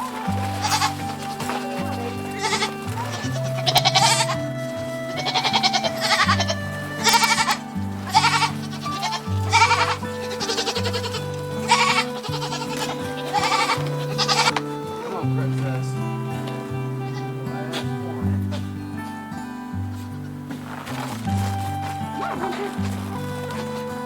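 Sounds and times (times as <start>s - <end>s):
goats bleating: 0.0s - 19.1s, 19.9s - 24.0s.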